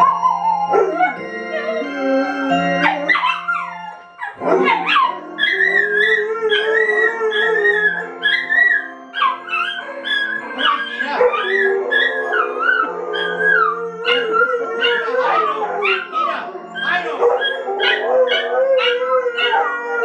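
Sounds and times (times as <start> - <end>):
dog howling: 0.0 - 20.0
music playing: 0.0 - 20.0.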